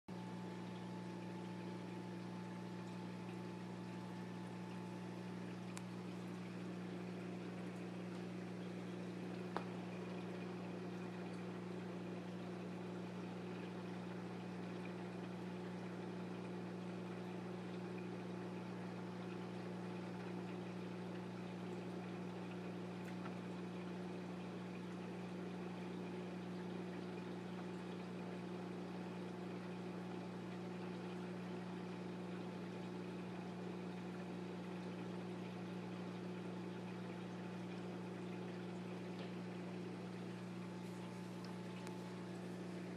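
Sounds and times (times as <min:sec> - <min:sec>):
aquarium pump hum: 0:00.1 - 0:42.9.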